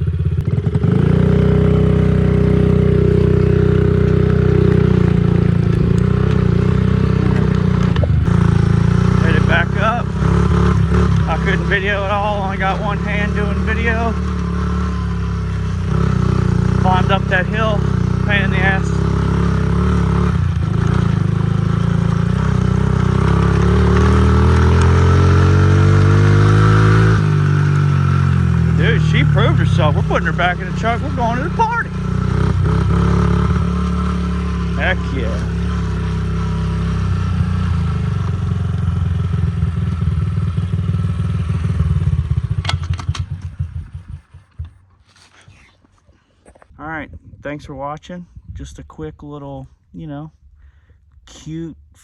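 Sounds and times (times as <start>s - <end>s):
small motorbike engine revving: 0.0s - 44.8s.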